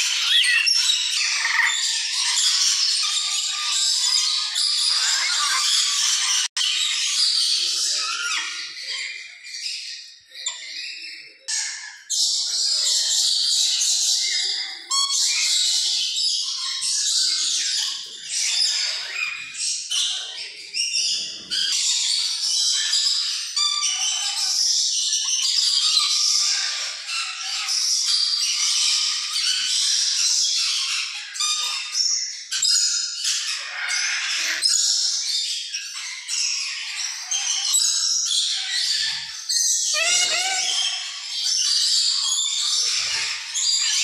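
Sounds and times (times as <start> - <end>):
caged birds chirping and whistling: 0.0 - 44.0
parrots screeching and squawking: 0.0 - 44.0.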